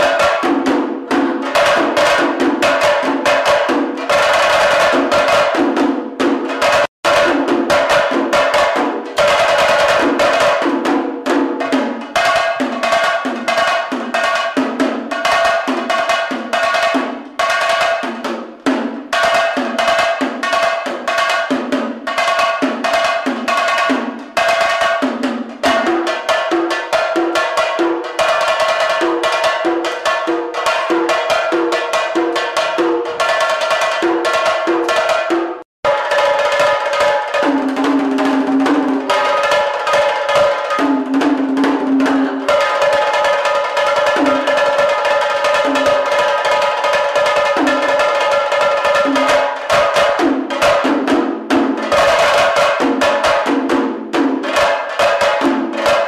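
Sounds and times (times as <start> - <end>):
clay hand drums playing: 0.0 - 56.0.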